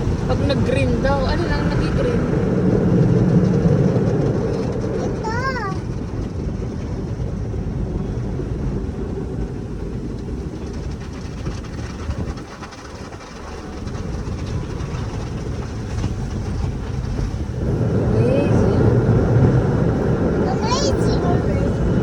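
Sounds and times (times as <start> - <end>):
car wash machinery: 0.0 - 22.0.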